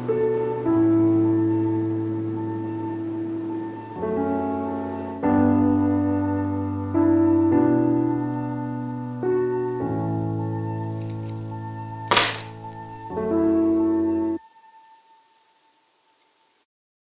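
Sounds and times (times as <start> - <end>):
slow piano chords: 0.0 - 14.4.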